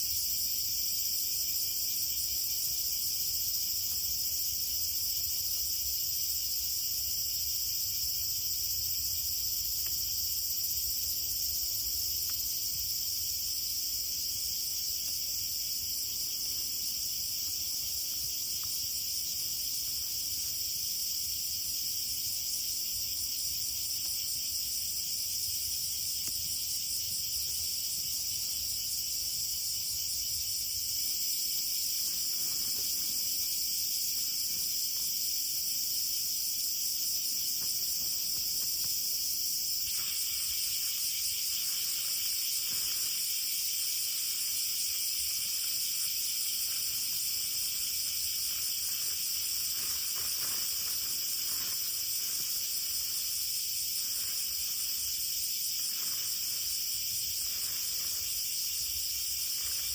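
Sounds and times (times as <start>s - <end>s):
insects chirping: 0.0s - 59.9s
hiss: 9.2s - 59.9s.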